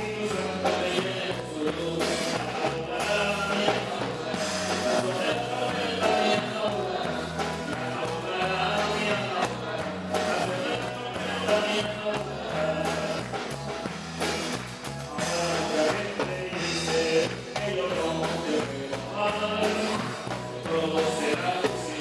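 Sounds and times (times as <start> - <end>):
group singing: 0.0 - 13.9, 15.1 - 22.0
band playing: 0.0 - 22.0
bass line: 0.0 - 22.0.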